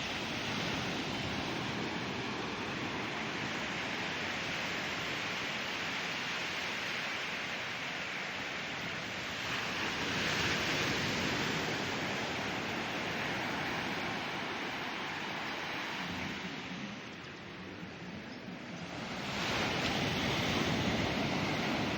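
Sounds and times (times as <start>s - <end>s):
ocean waves breaking on beach: 0.0s - 21.9s.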